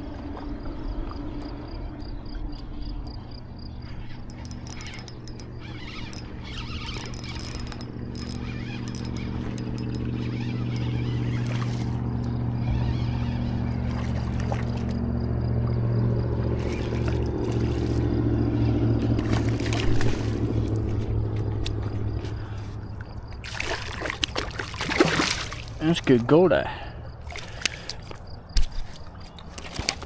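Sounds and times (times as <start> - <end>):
boat engine humming: 0.0 - 30.0
water splashing: 3.9 - 26.5, 27.2 - 30.0.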